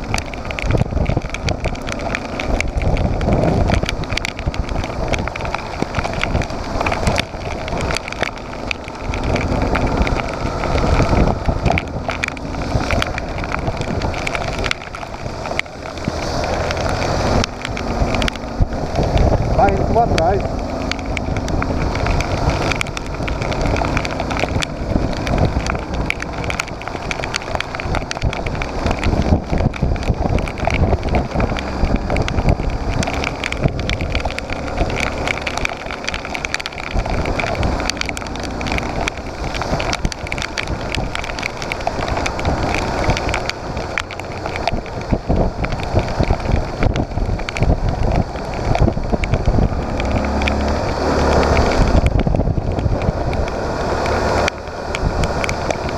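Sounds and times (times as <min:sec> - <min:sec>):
motorcycle engine: 0:00.0 - 0:55.9
rain crackling: 0:00.0 - 0:55.9
wind buffeting microphone: 0:00.0 - 0:55.9.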